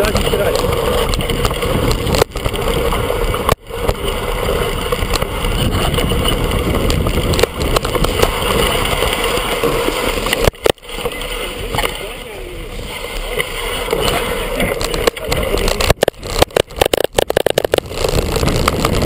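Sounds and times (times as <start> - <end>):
bike rattling: 0.0 - 19.0
bike tyre rumble: 0.0 - 19.0
wind on microphone: 0.0 - 19.0.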